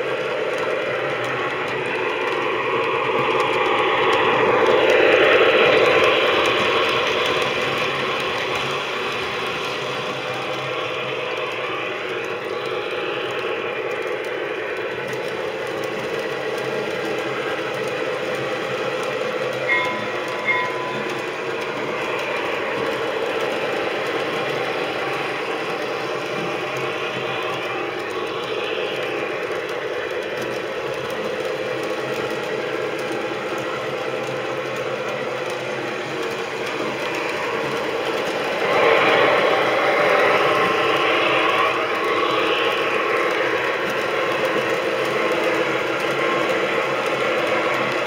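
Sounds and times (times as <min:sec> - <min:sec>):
model train rumbling on rails: 0:00.0 - 0:48.0.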